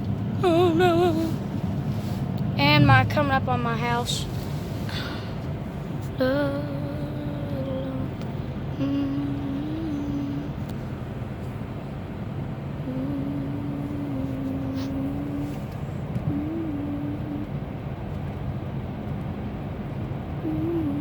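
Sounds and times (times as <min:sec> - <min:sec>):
held humming tone: 0:00.0 - 0:11.4, 0:12.0 - 0:17.8, 0:20.4 - 0:21.0
car road and engine rumble: 0:00.0 - 0:21.0.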